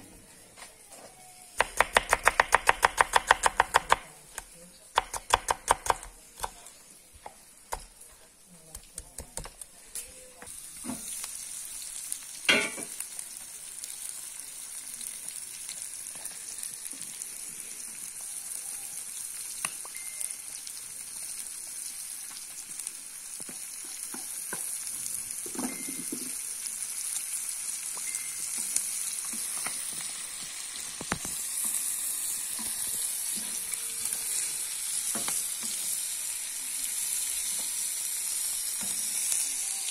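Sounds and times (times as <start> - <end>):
food sizzling on hot metal: 0.0 - 39.9.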